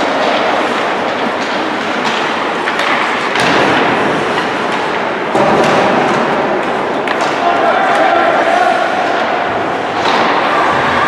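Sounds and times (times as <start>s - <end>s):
crowd noise echoing in arena: 0.0s - 11.0s
hockey sticks or puck clacking: 0.0s - 11.0s.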